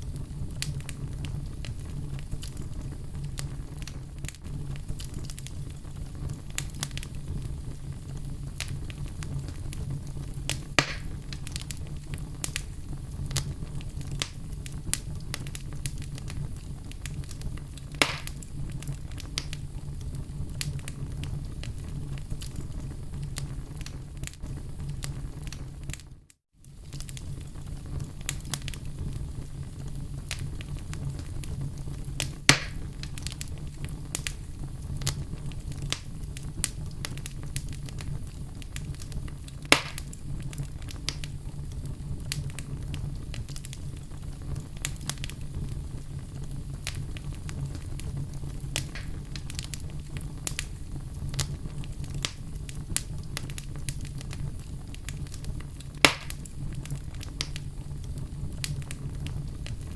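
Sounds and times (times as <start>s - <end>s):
fire burning in a fireplace: 0.0s - 59.9s
loud pops of fire: 0.0s - 59.9s.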